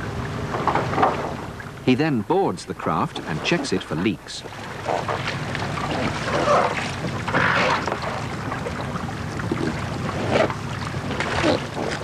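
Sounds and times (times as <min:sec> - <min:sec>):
sea water washing: 0:00.0 - 0:12.0.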